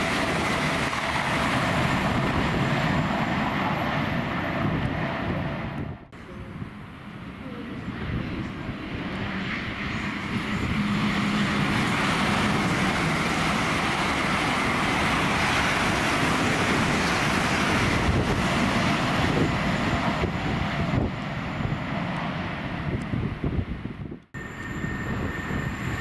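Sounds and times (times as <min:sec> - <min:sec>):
high-speed train passing: 0:00.0 - 0:26.0.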